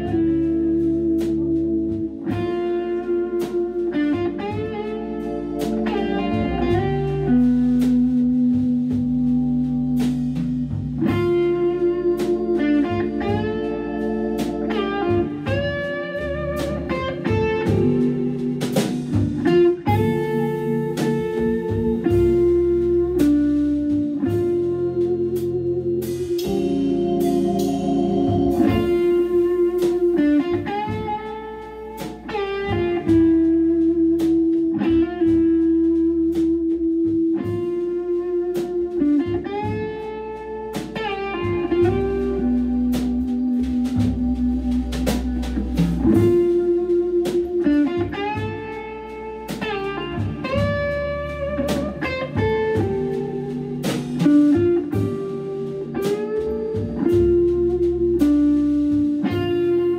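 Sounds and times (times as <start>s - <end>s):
bending electric guitar melody: 0.0s - 59.9s
bluesy jazz tune: 0.0s - 59.9s
held organ chords: 0.0s - 59.9s
drum strikes: 5.6s - 11.6s, 14.3s - 35.7s, 36.3s - 59.9s.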